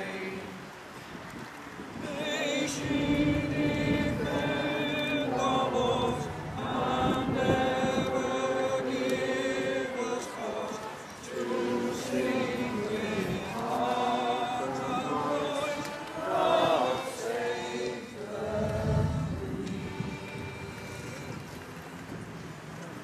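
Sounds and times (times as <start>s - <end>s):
crowd singing in unison: 0.0s - 1.1s, 1.8s - 22.1s.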